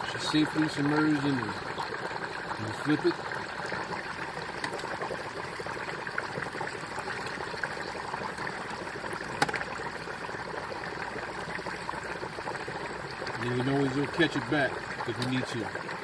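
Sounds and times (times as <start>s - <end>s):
hot oil bubbling and crackling: 0.0s - 16.0s.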